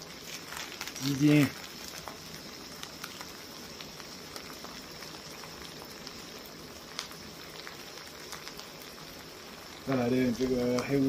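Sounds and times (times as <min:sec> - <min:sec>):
stir-fry sizzling in a pan: 0:00.0 - 0:11.0.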